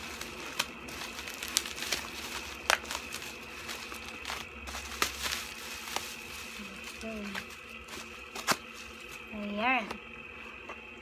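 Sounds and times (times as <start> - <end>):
bubble wrap crinkling: 0.0 - 9.5.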